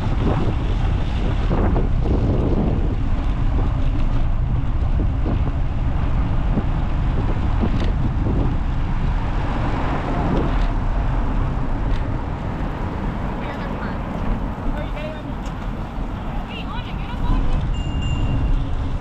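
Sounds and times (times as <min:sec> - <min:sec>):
road traffic: 0:00.0 - 0:19.0
wind rumble on microphone: 0:00.0 - 0:19.0.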